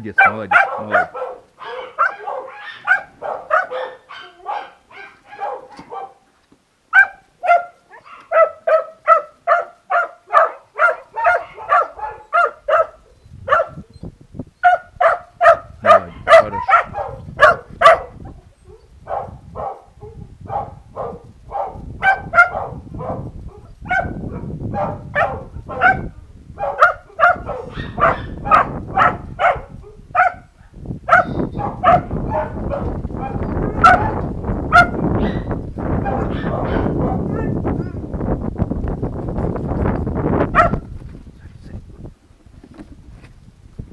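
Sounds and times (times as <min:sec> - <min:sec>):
puppies barking: 0:00.1 - 0:06.3, 0:06.9 - 0:13.9, 0:14.6 - 0:38.0, 0:40.5 - 0:40.8.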